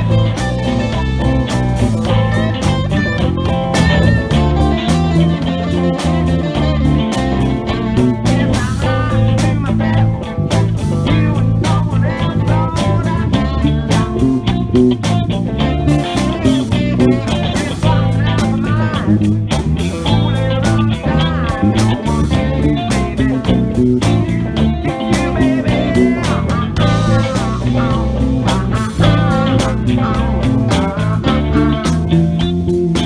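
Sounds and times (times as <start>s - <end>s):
bass guitar: 0.0s - 33.0s
drum kit beat: 0.0s - 33.0s
electric guitars: 0.0s - 33.0s.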